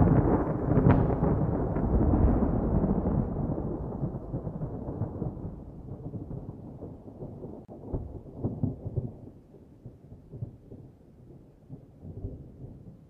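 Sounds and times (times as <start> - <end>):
thunder rumbling and cracking: 0.0 - 10.9.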